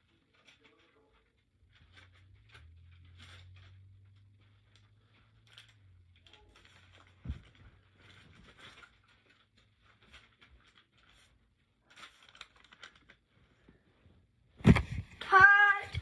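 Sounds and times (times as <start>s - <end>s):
faint rustles and ticks: 0.0s - 14.0s.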